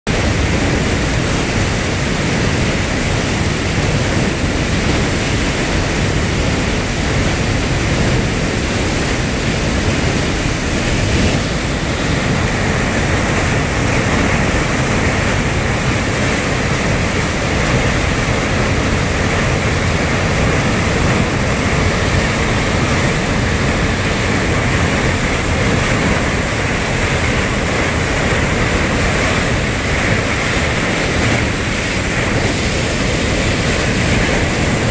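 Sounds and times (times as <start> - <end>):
floodwater rushing from spillway: 0.1 - 34.9.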